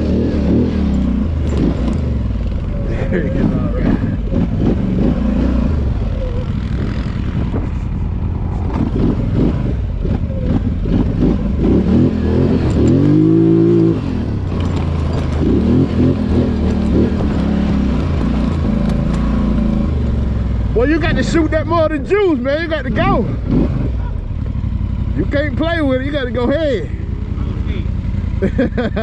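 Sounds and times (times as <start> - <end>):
engine revving: 0.0 - 29.0
off-road vehicle engines running: 0.0 - 29.0.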